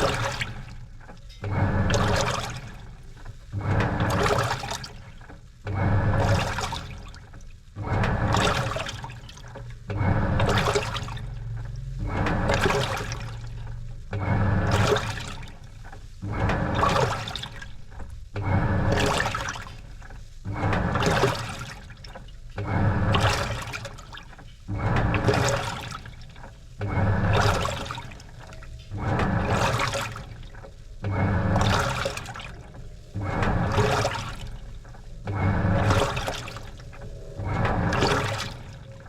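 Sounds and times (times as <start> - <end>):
washing machine sloshing and churning: 0.0 - 39.0.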